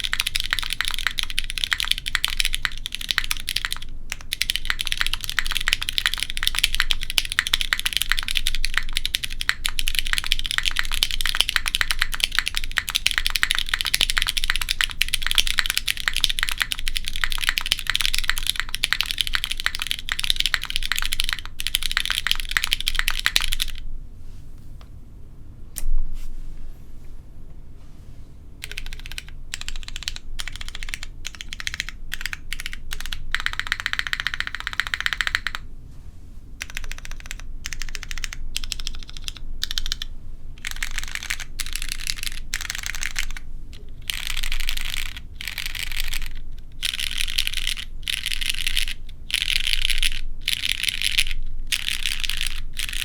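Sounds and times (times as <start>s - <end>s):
fast typing on mechanical keyboard: 0.0s - 23.8s, 28.6s - 35.6s, 36.6s - 53.0s.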